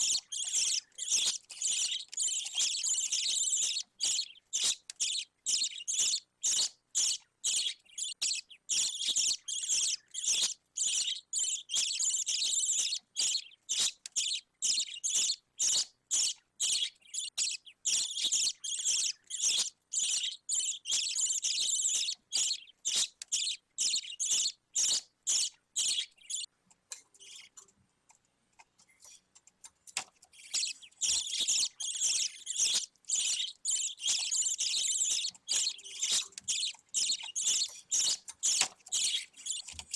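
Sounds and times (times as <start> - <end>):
budgerigar chick chirping: 0.0 - 26.5, 30.4 - 39.9.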